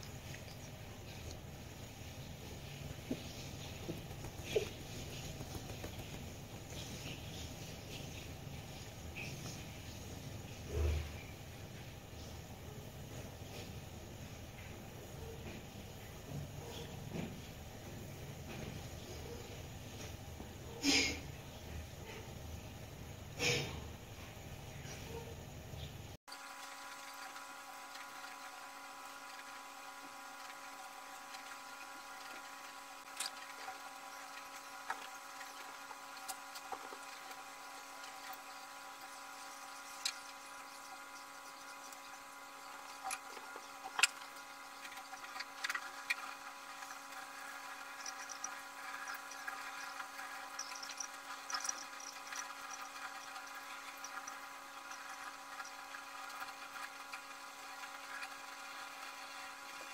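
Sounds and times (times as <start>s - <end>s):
machine hum: 0.0s - 15.4s, 24.2s - 59.9s.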